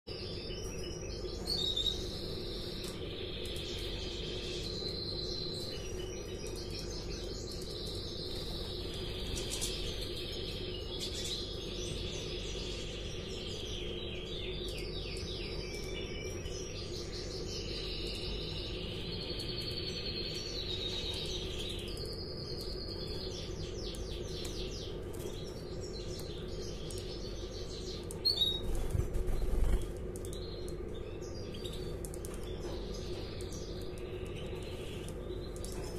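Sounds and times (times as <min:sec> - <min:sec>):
canaries chirping and trilling: 0:00.1 - 0:35.9
steady low hum: 0:00.1 - 0:35.9.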